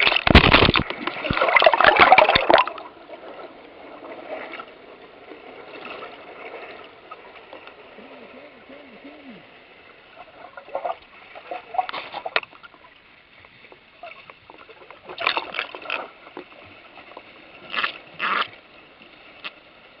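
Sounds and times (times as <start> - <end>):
moving water hiss: 0.0 - 20.0
water splashing and sloshing: 0.0 - 20.0.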